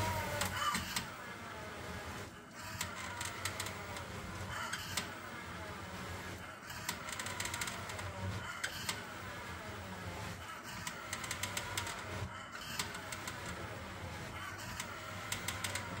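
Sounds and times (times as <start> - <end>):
electric motor whirring: 0.0 - 16.0.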